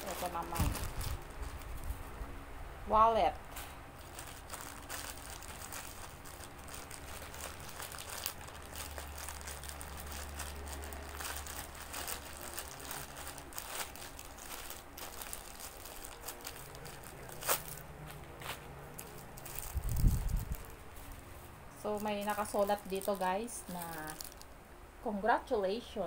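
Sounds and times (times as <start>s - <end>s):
plastic packaging crinkling: 0.0s - 2.0s, 3.6s - 24.6s.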